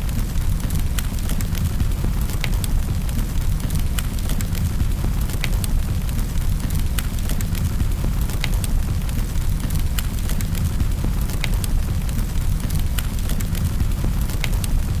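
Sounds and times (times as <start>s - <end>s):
low rumble of fire: 0.0s - 15.0s
wood fire crackling: 0.0s - 15.0s.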